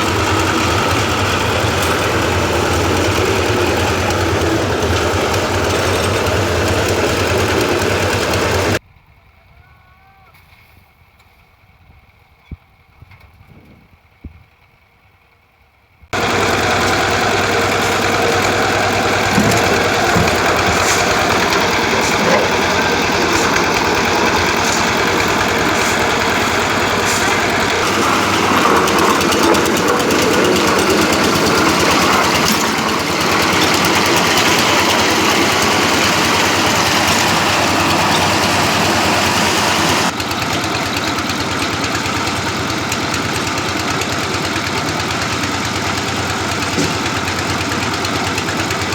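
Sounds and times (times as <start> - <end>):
concrete mixer engine running: 0.0 - 8.8, 16.2 - 48.9.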